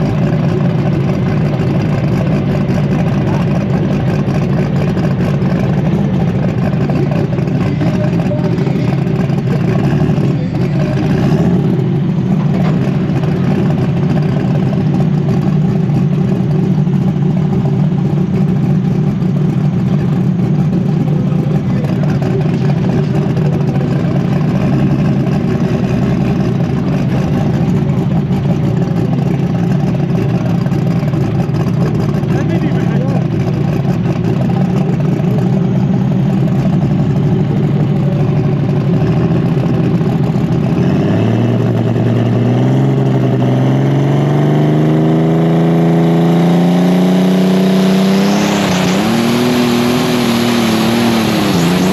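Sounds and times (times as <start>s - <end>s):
heavy tractor engine running: 0.0s - 51.9s.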